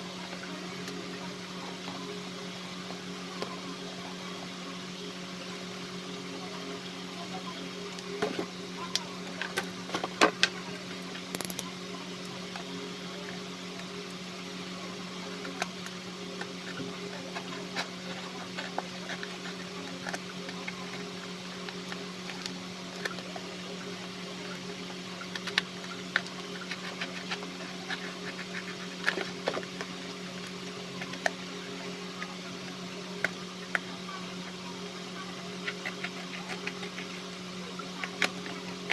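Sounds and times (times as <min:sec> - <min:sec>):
steady low motor hum: 0:00.0 - 0:38.9.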